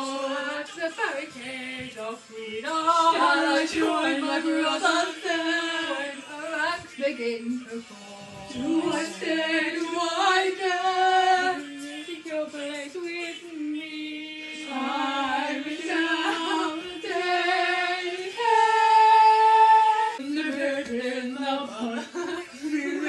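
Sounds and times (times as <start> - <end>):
women singing unaccompanied: 0.0 - 23.0.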